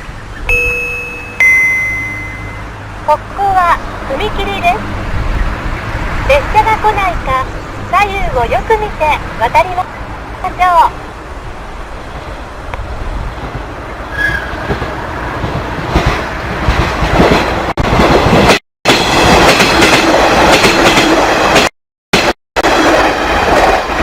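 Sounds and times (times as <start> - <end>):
train rumbling past: 1.4 - 24.0.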